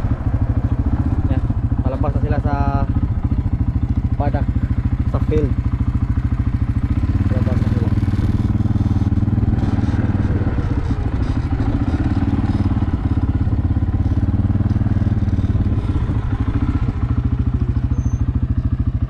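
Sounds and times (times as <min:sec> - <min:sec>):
small farm bike engine running: 0:00.0 - 0:19.0.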